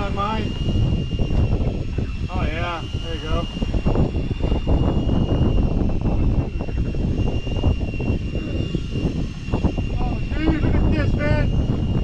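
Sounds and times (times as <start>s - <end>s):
thin steady high tone: 0.0s - 12.0s
wind buffeting microphone: 0.0s - 12.0s.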